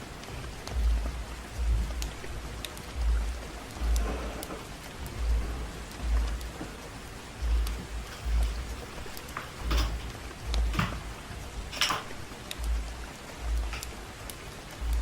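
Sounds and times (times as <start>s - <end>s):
rain hiss: 0.0s - 15.0s
wood fire crackling: 0.0s - 15.0s
deep low thumps: 0.4s - 11.7s, 12.5s - 14.1s, 14.8s - 15.0s.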